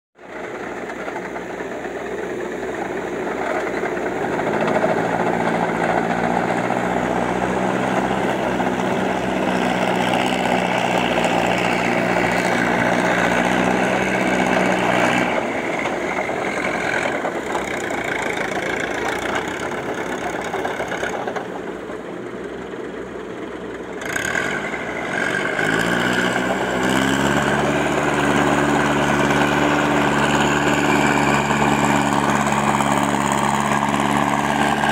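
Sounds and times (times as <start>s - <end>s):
tractor diesel engine under load: 0.2s - 34.9s.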